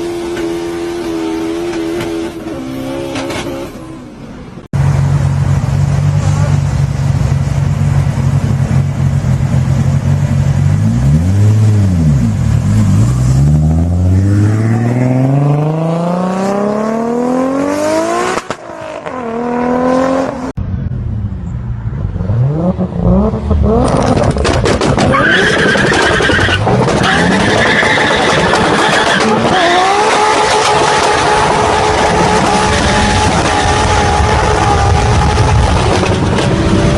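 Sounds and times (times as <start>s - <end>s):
other cars revving: 0.0s - 20.6s, 21.9s - 36.9s
car engine idling and revving: 0.0s - 36.9s.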